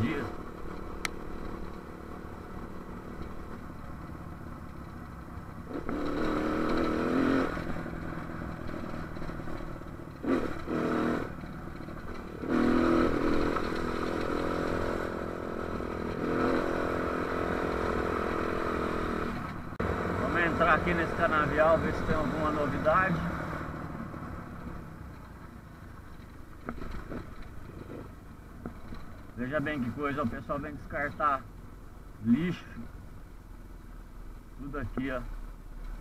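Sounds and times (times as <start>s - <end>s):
motorcycle engine revving: 0.0s - 25.2s, 26.6s - 31.4s.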